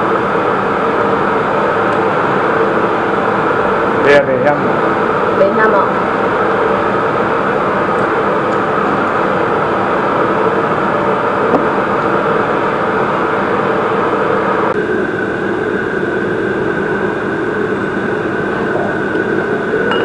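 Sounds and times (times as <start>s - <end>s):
held hum tones: 0.0s - 20.0s
loud machine drone: 0.0s - 20.0s.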